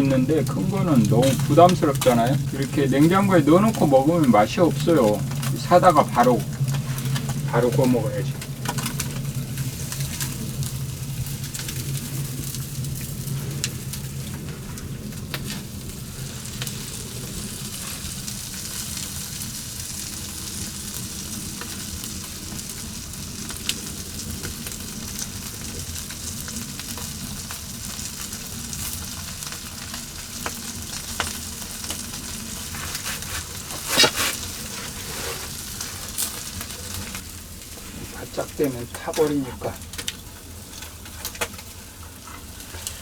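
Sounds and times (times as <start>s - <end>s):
fat dripping onto hot coals: 0.0s - 43.0s
fire crackling: 0.0s - 43.0s
fish sizzling on a grill: 0.0s - 43.0s.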